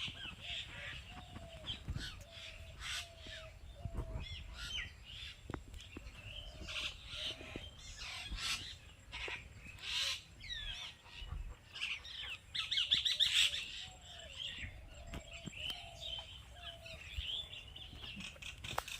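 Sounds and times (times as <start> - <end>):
birds chirping and calling: 0.0 - 18.9.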